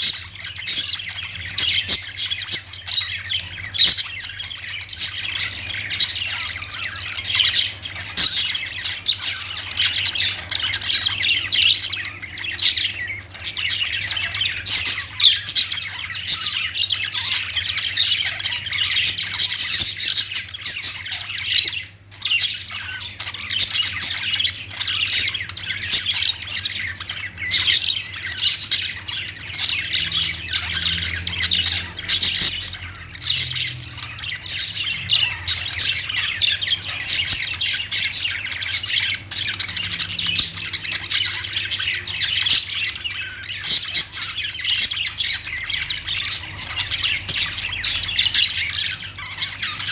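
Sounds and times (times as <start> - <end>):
budgerigars chirping and squawking: 0.0 - 49.9.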